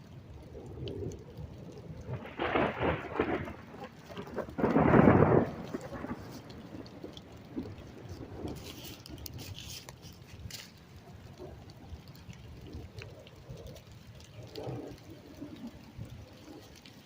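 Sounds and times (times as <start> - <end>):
rain pattering and dripping: 0.0 - 17.0.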